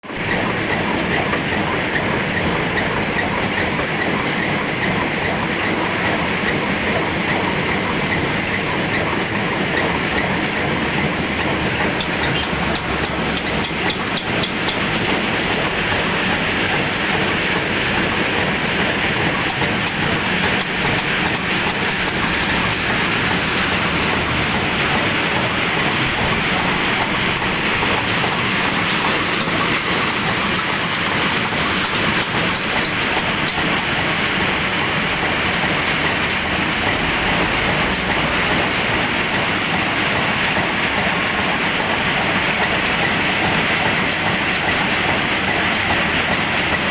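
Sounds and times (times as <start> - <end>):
sorting machine rattling: 0.0 - 46.9.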